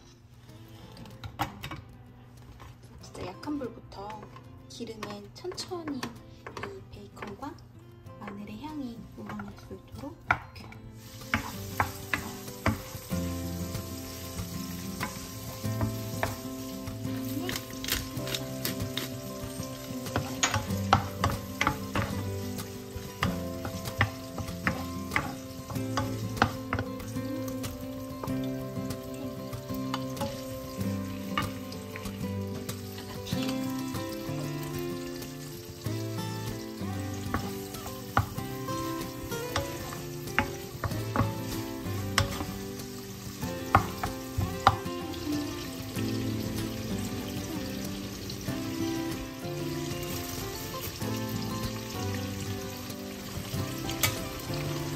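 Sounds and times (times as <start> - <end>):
bacon sizzling in oil: 10.8 - 54.9.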